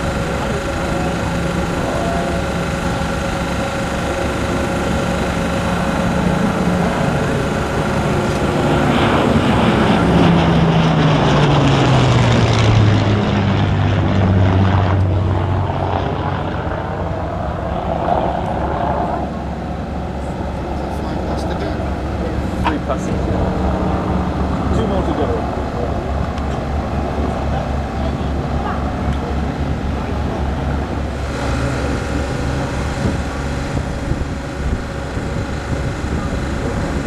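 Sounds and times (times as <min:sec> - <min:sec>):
propeller aircraft engine drone: 0:00.0 - 0:37.0.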